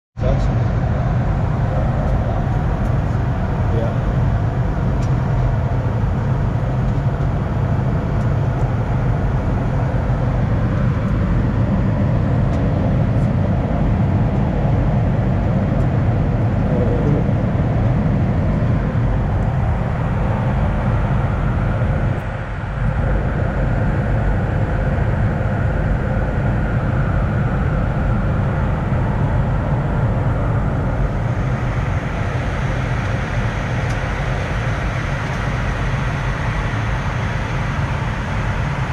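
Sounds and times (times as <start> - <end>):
aircraft engine and airflow noise: 0.2 - 38.9.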